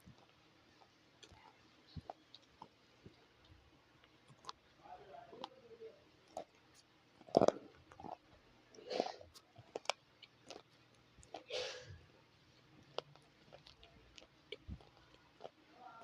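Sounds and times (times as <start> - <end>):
slate crunching being chewed: 0.0 - 3.3, 4.0 - 4.6, 6.2 - 11.8, 12.5 - 16.0.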